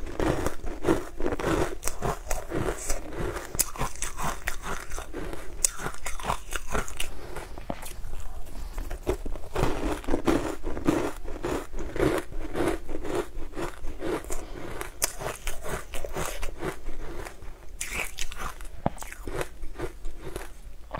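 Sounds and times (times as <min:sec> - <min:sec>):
person chewing crunchy food: 0:00.0 - 0:20.9.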